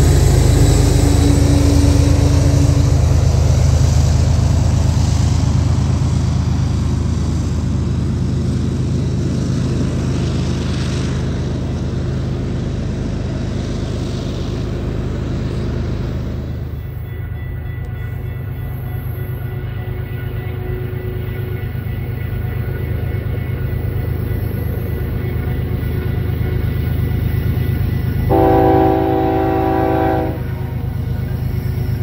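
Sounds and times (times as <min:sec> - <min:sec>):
diesel locomotive engine drone: 0:00.0 - 0:32.0.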